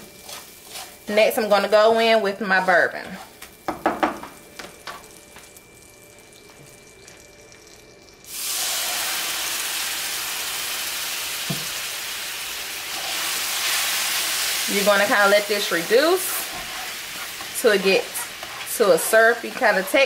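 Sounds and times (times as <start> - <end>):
liquid sizzling in hot pan: 0.0 - 3.8, 4.4 - 20.0.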